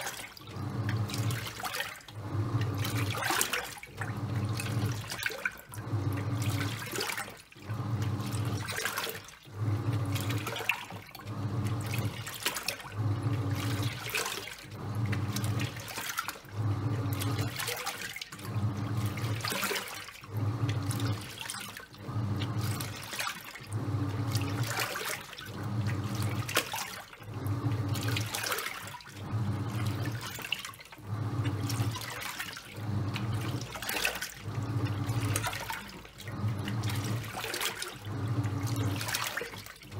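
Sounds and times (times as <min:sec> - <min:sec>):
washing machine motor humming: 0:00.0 - 0:39.9
water sloshing in drum: 0:00.0 - 0:39.9.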